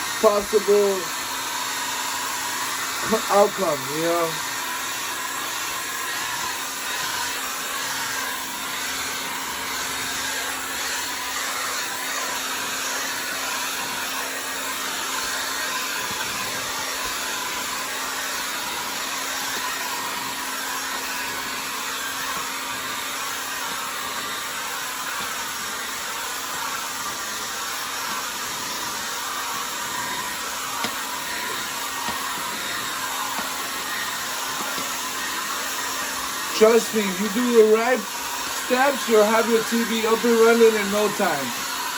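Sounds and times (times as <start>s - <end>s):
blow dryer rushing air: 0.0s - 41.9s.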